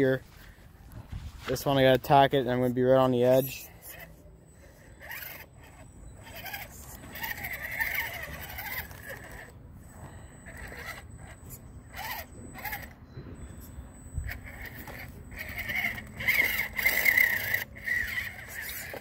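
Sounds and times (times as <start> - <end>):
electric motor whining: 3.3 - 19.0.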